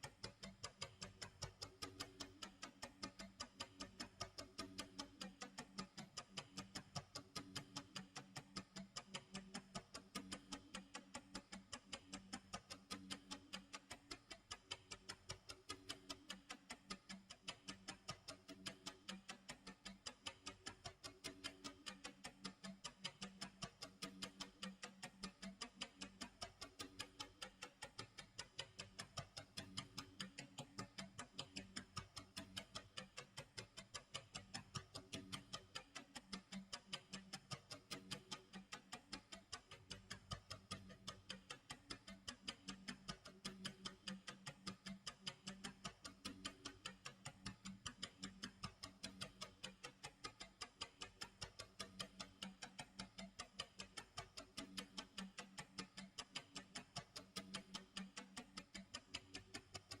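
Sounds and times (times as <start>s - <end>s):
clock ticking: 0.0s - 60.0s.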